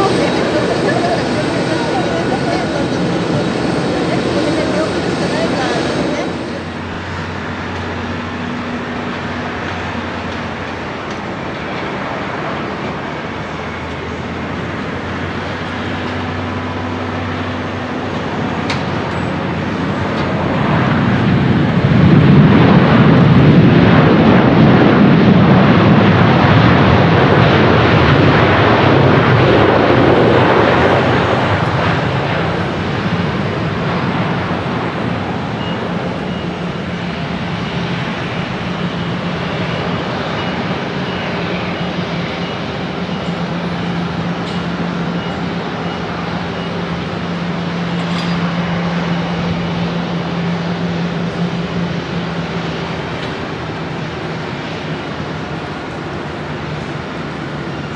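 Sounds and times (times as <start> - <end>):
jet engine noise: 0.0 - 57.9.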